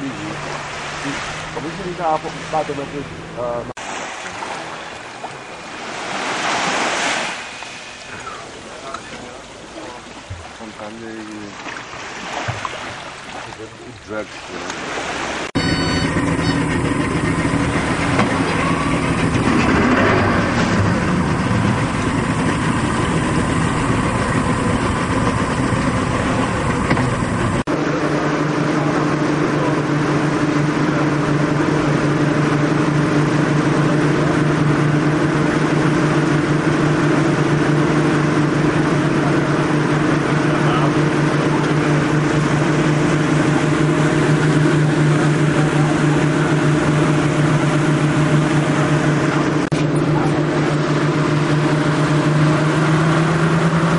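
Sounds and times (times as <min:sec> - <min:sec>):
outboard motor running: 0:00.0 - 0:53.9
rushing water and air: 0:00.0 - 0:53.9.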